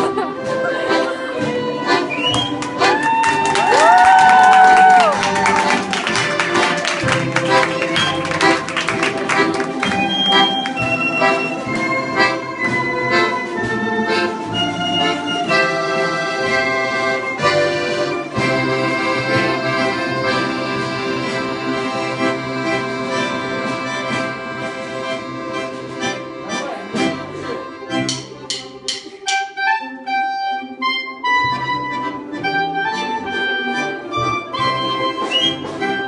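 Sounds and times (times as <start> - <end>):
accordion chords: 0.0 - 36.0.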